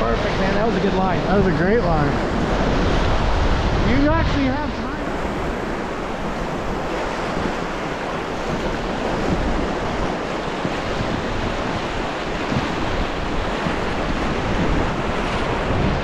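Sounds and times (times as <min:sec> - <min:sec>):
whitewater rushing: 0:00.0 - 0:16.0
wind buffeting microphone: 0:00.0 - 0:16.0.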